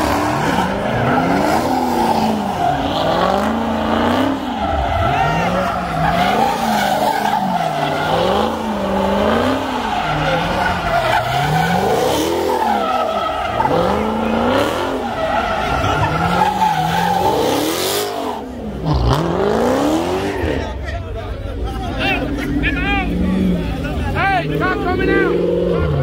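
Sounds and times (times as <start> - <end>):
car engine revving: 0.0 - 26.0
tyres squealing and skidding: 0.0 - 26.0.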